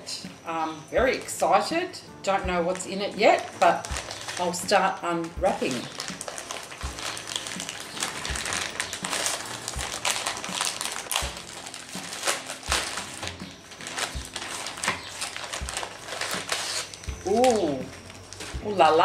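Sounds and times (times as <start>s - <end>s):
paper wrapping crinkling and tearing: 2.7s - 19.0s.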